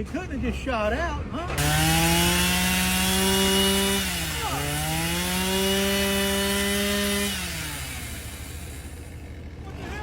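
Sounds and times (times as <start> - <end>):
chainsaw engine revving: 1.6 - 10.0.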